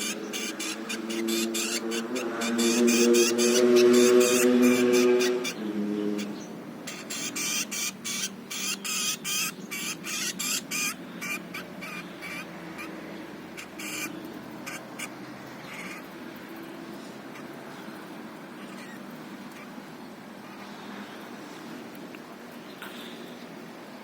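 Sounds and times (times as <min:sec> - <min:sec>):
canaries chirping: 0:00.0 - 0:21.4.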